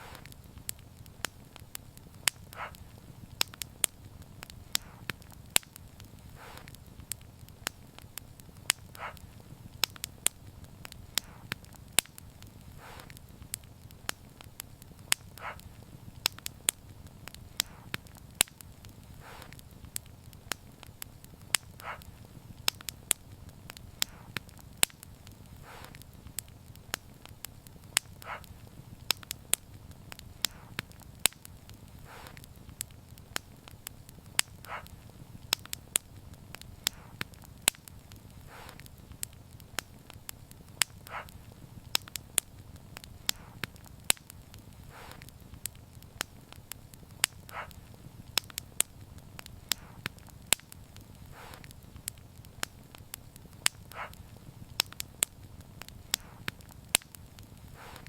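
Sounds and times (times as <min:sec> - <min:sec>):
soft hiss of fire: 0:00.0 - 0:58.0
wood fire crackling: 0:00.0 - 0:58.0.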